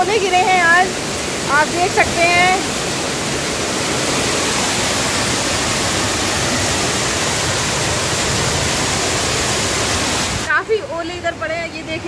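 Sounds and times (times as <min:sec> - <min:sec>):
heavy rain pouring: 0:00.0 - 0:10.6.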